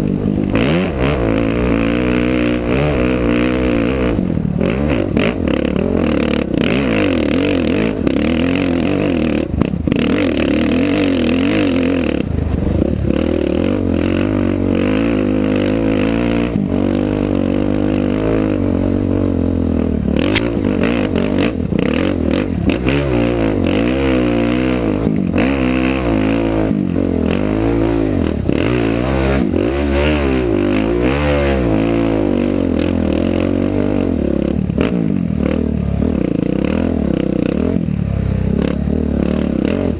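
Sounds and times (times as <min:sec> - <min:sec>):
race vehicle engine revving: 0:00.0 - 0:18.7, 0:20.0 - 0:35.6.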